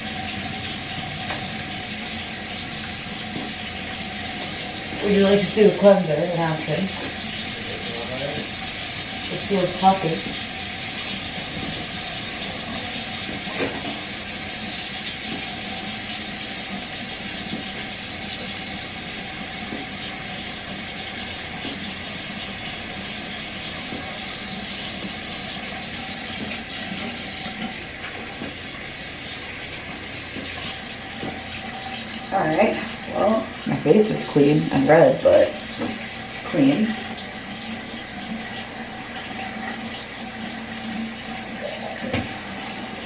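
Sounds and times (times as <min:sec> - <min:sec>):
sink tap running: 0:00.0 - 0:43.0.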